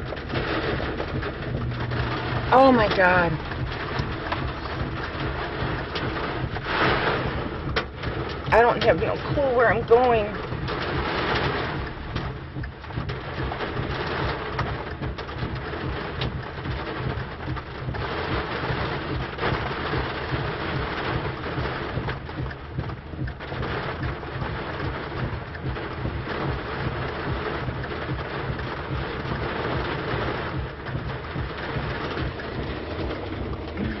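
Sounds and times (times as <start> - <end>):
heavy rain on a car roof: 0.0 - 34.0.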